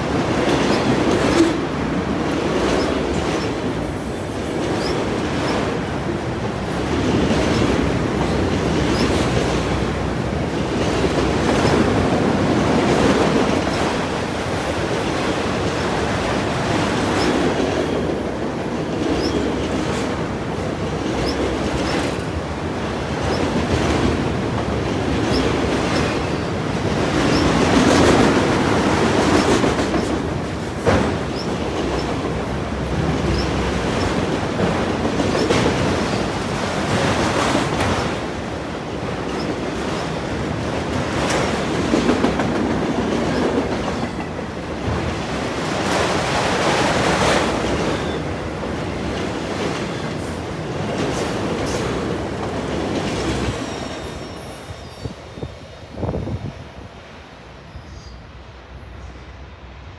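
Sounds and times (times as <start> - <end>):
clickety-clack over rail joints: 0.0 - 56.6
train wheels rumbling on rail: 0.0 - 59.9.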